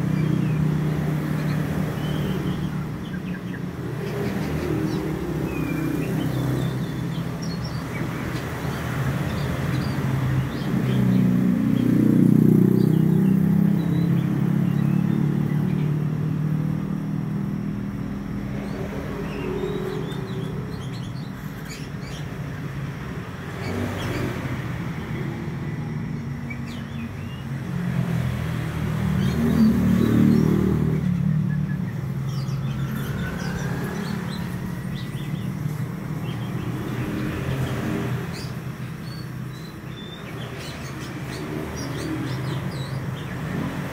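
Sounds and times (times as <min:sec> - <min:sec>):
bird chirping: 0:00.0 - 0:43.9
vehicles passing: 0:00.0 - 0:43.9.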